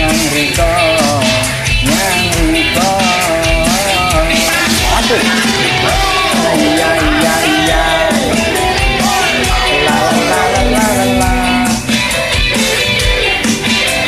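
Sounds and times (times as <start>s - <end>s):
man singing karaoke: 0.0s - 12.0s
recorded backing track: 0.0s - 14.0s.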